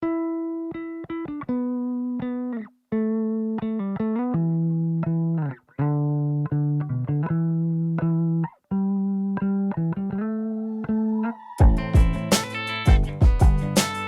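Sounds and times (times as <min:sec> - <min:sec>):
plucked melody: 0:00.0 - 0:14.0.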